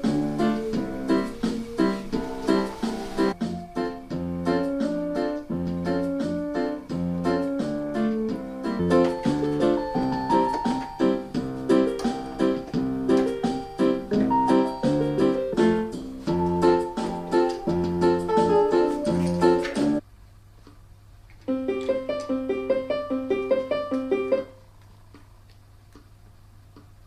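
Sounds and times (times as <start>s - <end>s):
upbeat keyboard music: 0.0s - 20.0s, 21.5s - 24.6s.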